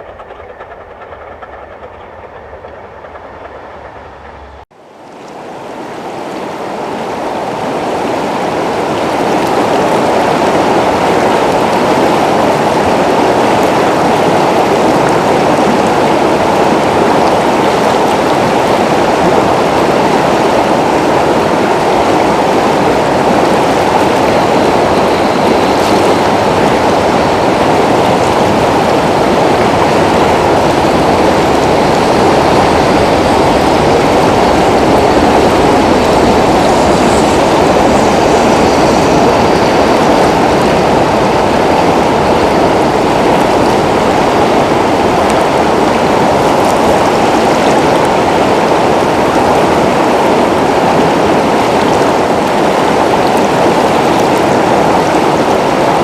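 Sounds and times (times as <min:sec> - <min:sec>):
rushing water: 0:04.7 - 0:56.0.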